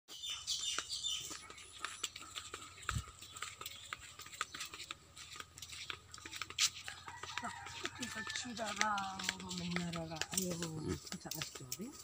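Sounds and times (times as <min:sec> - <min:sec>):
footsteps on a dirt path: 0:00.1 - 0:12.0.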